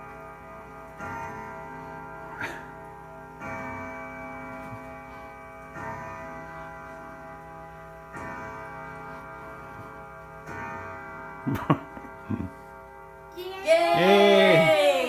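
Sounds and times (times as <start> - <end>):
grandfather clock striking: 0.0 - 13.4.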